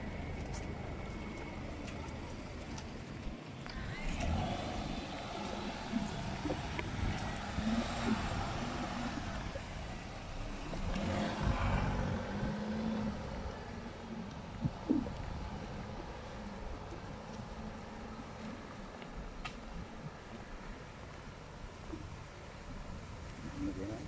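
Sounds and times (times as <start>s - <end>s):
cars passing close: 0.0s - 24.0s.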